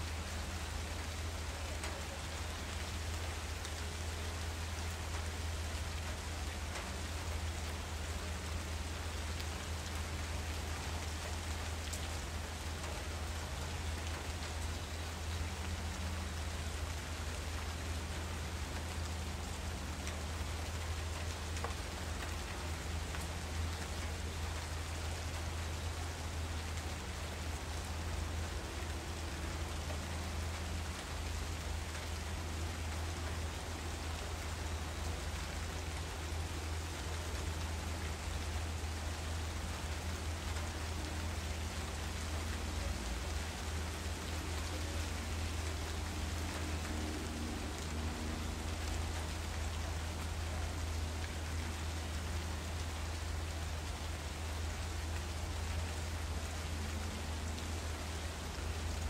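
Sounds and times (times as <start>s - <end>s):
rain-like hiss: 0.0s - 59.0s.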